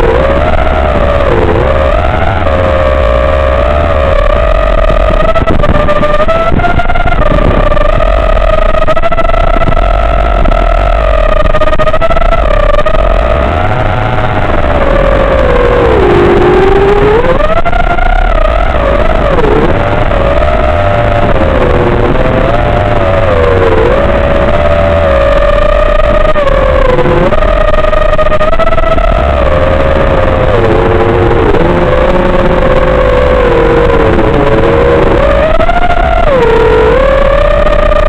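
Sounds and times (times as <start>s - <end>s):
quadcopter propellers whining: 0.0s - 38.0s.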